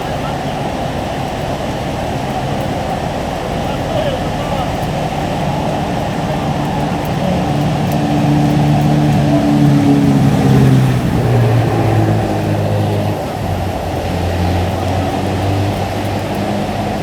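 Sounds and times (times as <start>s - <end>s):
dense rushing noise: 0.0s - 17.0s
vehicle engine running: 0.0s - 17.0s.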